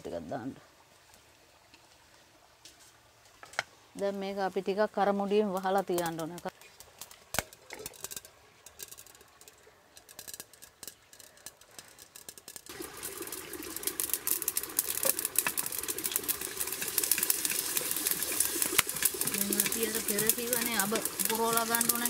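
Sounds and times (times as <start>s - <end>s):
hot oil sizzling and crackling: 2.6s - 22.0s.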